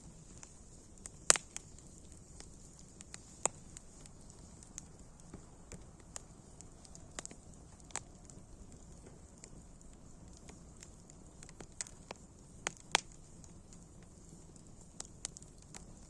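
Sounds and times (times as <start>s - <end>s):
campfire crackling: 0.0s - 16.0s
faint steady hiss: 0.0s - 16.0s.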